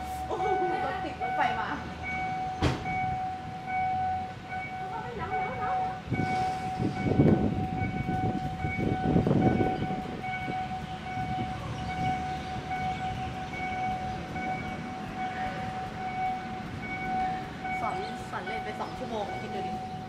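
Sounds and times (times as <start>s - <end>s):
level crossing warning tone: 0.0s - 20.0s.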